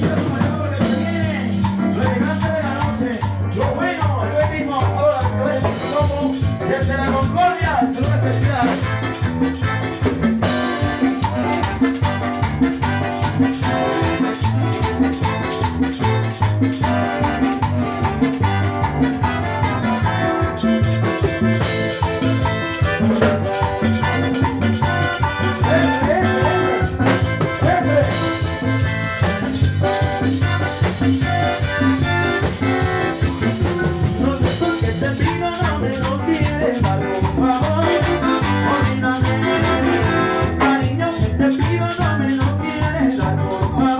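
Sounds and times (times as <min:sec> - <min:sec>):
latin dance orchestra playing: 0:00.0 - 0:43.9.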